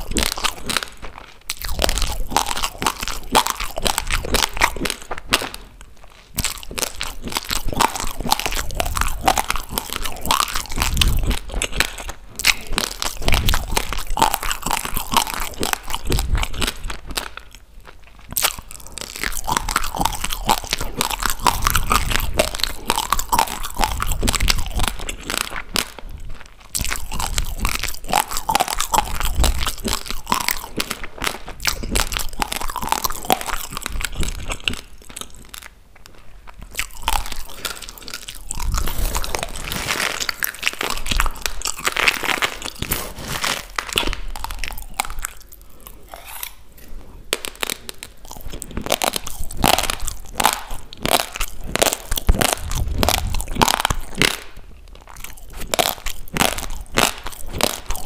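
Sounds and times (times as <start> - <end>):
crunching raw rice: 0.0 - 58.0.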